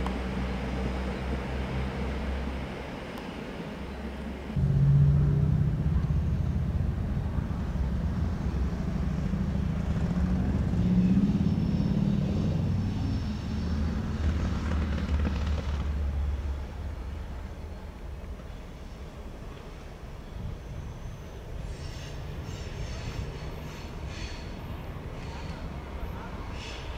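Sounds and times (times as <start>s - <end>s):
diesel engine drone: 0.0s - 26.9s.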